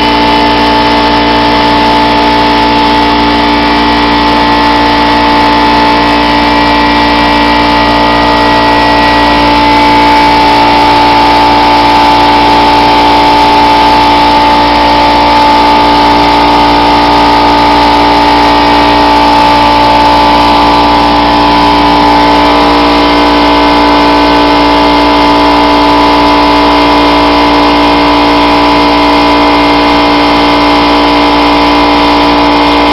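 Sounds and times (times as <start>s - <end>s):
air compressor running: 0.0s - 32.9s.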